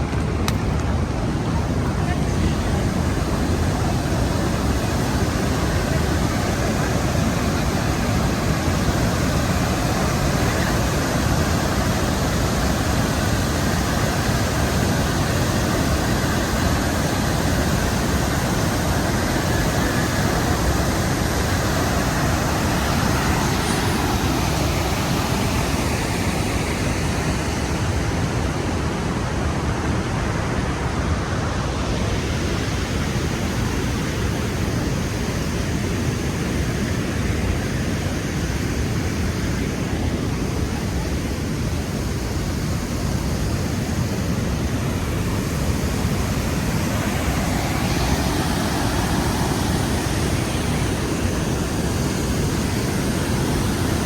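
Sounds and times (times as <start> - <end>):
loud steady rushing noise: 0.0 - 54.0.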